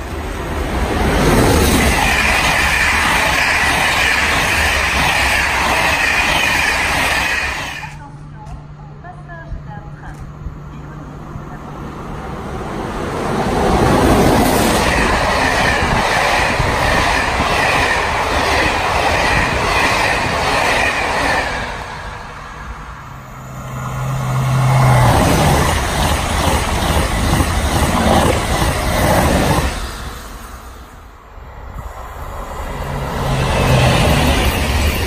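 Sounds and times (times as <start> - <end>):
electric train passing: 0.0 - 35.0
high-speed train passing: 0.0 - 35.0.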